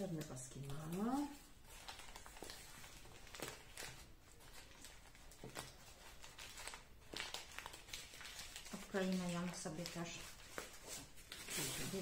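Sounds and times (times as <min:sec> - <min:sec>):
newspaper crinkling: 0:00.0 - 0:12.0.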